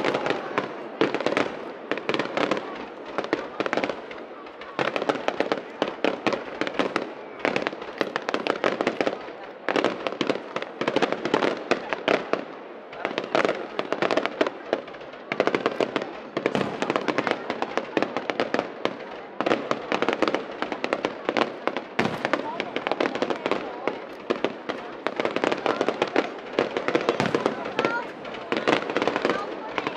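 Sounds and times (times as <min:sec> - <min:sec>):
fireworks popping and banging: 0:00.0 - 0:29.9.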